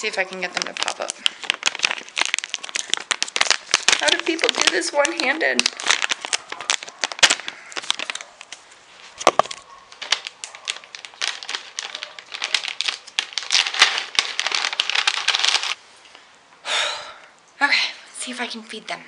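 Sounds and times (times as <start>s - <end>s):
plastic pouch crinkling: 0.0s - 15.8s.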